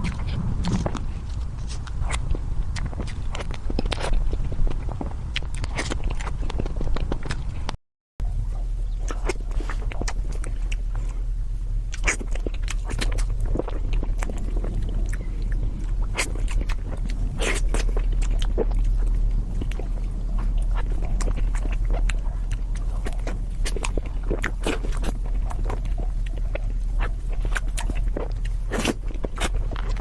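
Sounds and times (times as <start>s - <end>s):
low hum: 0.0s - 30.0s
person chewing cake: 0.0s - 30.0s.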